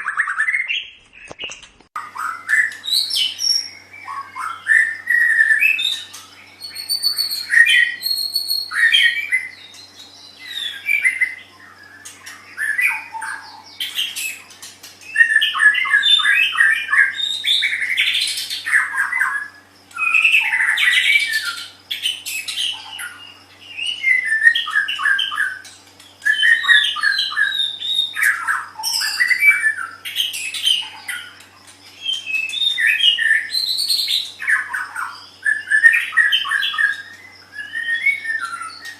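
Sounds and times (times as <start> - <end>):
bird whistling song: 0.0 - 38.9.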